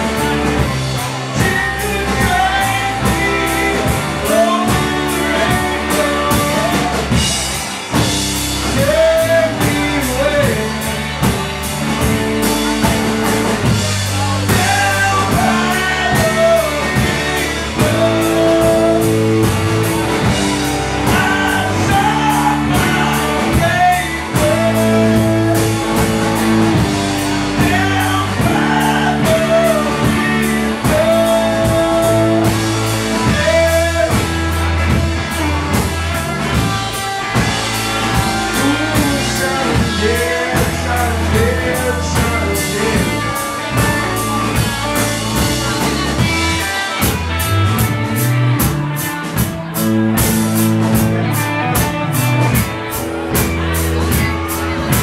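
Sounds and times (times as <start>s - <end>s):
male lead vocal: 0.0s - 52.7s
bass guitar: 0.0s - 55.0s
drum kit beat: 0.0s - 55.0s
electric guitar: 0.0s - 55.0s.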